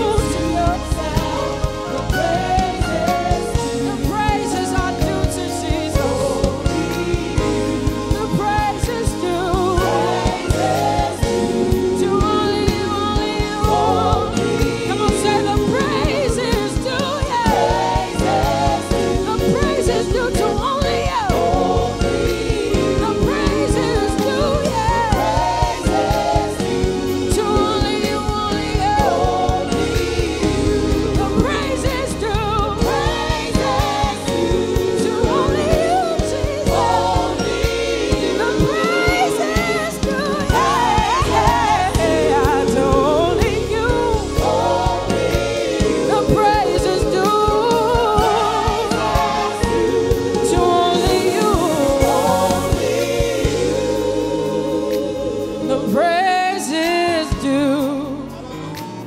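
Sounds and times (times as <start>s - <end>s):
backing singers: 0.0s - 59.0s
band playing gospel music: 0.0s - 59.0s
woman singing lead vocal: 0.0s - 59.0s.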